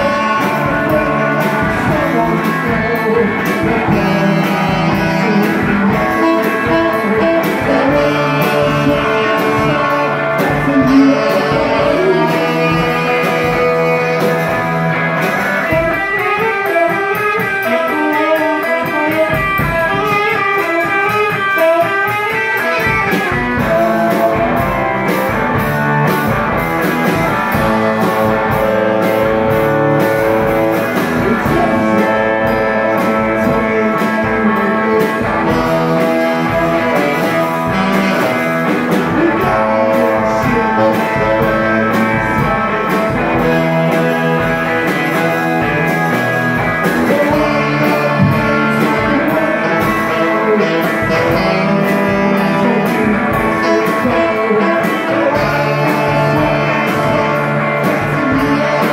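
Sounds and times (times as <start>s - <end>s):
drum hits: 0.0s - 16.5s, 22.8s - 58.9s
electric guitar: 0.0s - 58.9s
saxophone long notes: 0.0s - 58.9s.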